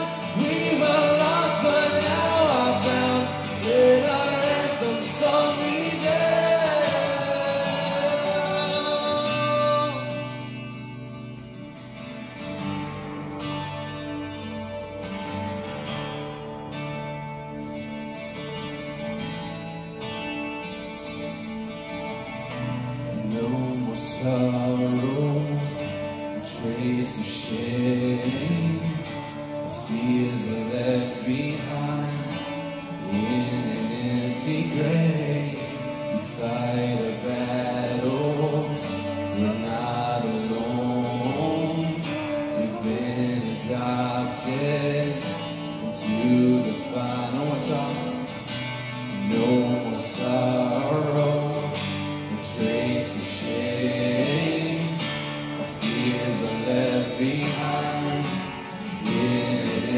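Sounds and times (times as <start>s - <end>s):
guitar accompaniment: 0.0s - 59.9s
person singing: 0.0s - 59.9s.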